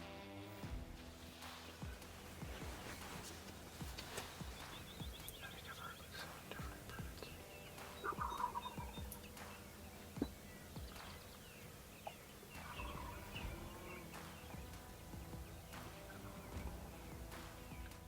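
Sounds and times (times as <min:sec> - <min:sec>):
small birds chirping: 0:00.7 - 0:18.0
distant turkeys gobbling: 0:01.2 - 0:18.0.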